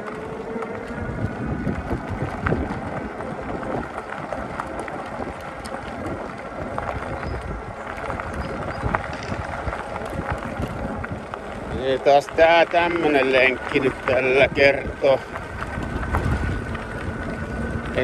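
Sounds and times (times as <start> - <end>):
bike tyres rolling over gravel: 0.0 - 18.0
wind buffeting microphone: 0.0 - 18.0.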